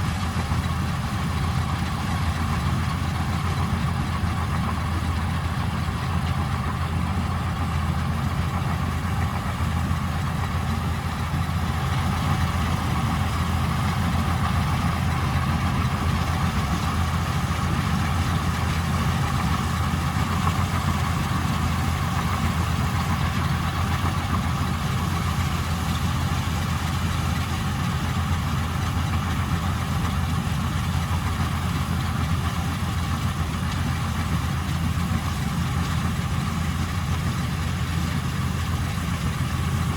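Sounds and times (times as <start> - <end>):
combine harvester engine drone: 0.0 - 39.9
mid-pitched machinery hum: 0.0 - 39.9.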